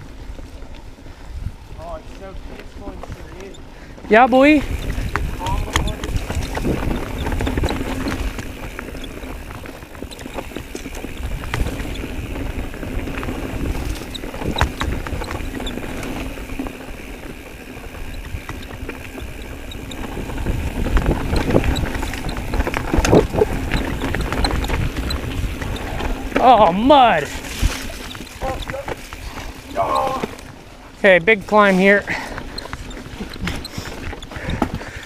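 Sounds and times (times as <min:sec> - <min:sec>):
bike rattling: 0:00.0 - 0:35.0
bike tyres rumbling on dirt: 0:00.0 - 0:35.0.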